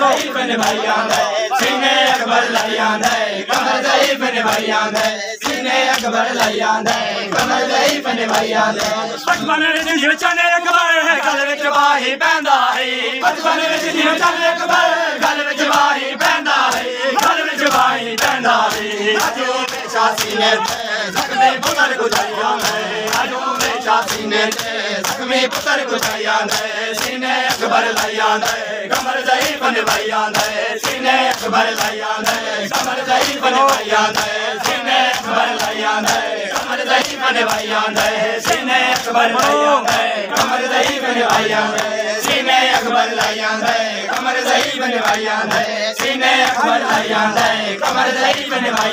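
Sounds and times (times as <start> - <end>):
men chanting in unison: 0.0 - 48.9
hands slapping bare chests: 0.1 - 10.0, 14.7 - 48.9.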